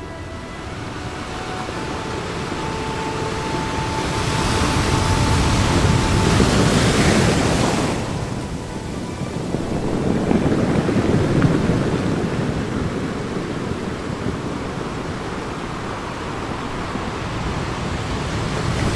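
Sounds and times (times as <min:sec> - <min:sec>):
small waves washing onto beach: 0:00.0 - 0:18.9.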